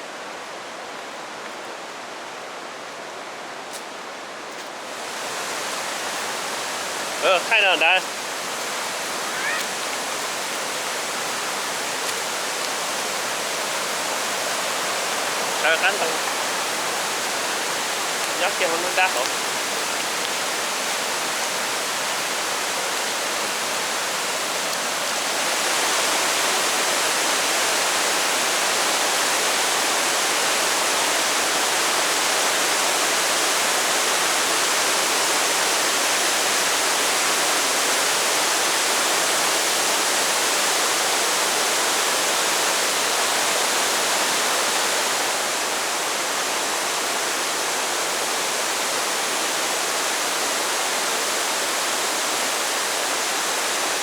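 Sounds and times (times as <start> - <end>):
waterfall rushing: 4.8 - 54.0.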